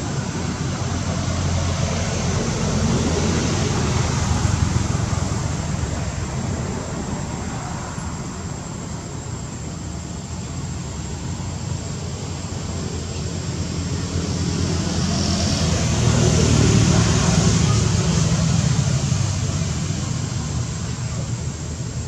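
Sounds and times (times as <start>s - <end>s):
rumbling background noise: 0.0s - 22.0s.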